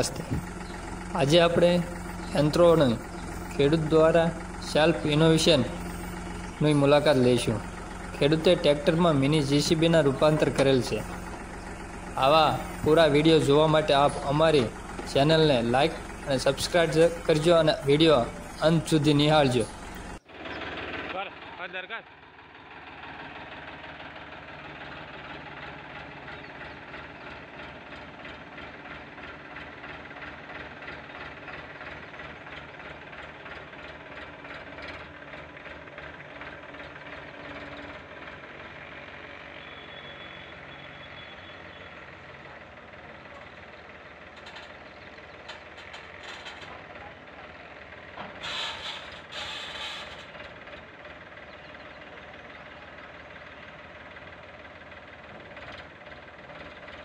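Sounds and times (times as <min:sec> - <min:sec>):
tractor diesel engine chugging: 0:00.0 - 0:57.0.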